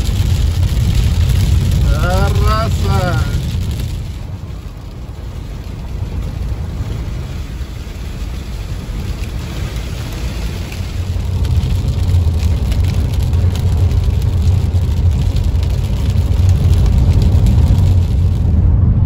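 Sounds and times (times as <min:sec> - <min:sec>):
rain pattering on windshield: 0:00.0 - 0:18.7
road and engine rumble: 0:00.0 - 0:19.0.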